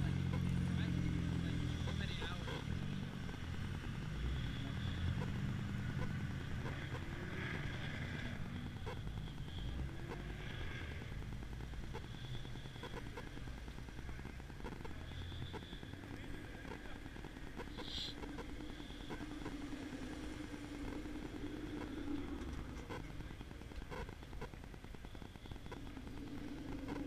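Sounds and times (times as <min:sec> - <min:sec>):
car engines running: 0:00.0 - 0:27.0.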